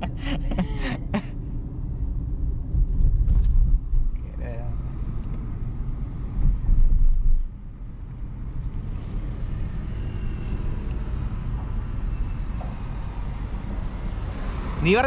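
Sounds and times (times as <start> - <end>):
car interior engine and road rumble: 0.0 - 15.0.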